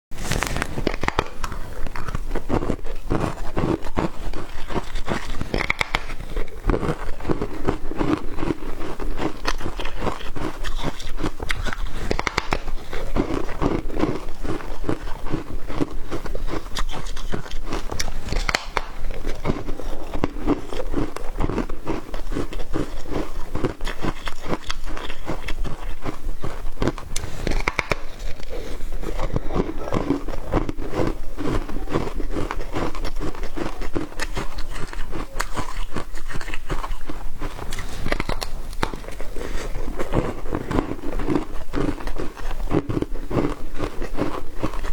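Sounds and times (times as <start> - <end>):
crunchy food being chewed: 0.2 - 44.9.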